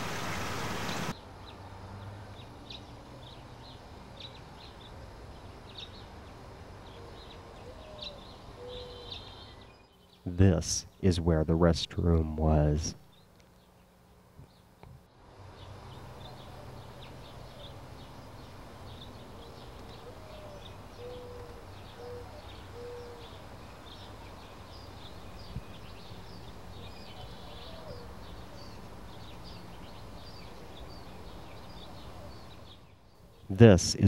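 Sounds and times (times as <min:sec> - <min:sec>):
birds chirping: 0:00.0 - 0:01.6, 0:06.8 - 0:15.0, 0:15.6 - 0:34.0.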